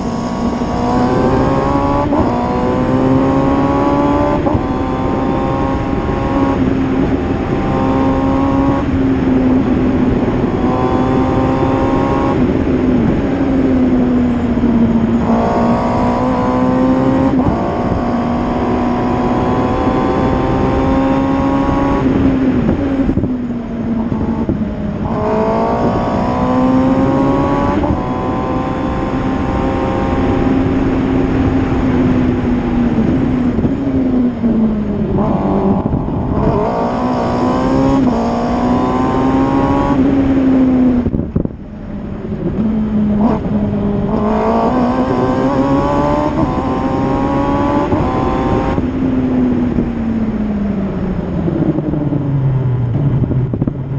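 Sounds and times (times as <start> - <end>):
racing car engine revving: 0.0 - 23.3, 23.9 - 41.2, 42.4 - 49.9.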